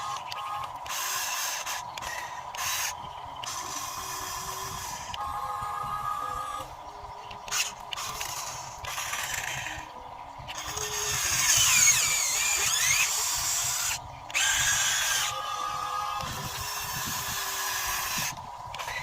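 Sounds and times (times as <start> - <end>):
hydraulic pump motor whining: 0.0 - 19.0.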